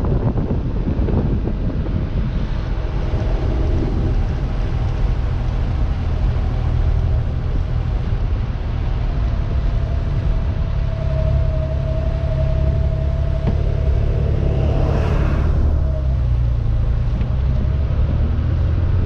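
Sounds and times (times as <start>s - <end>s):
car engine cruising: 0.0s - 19.0s.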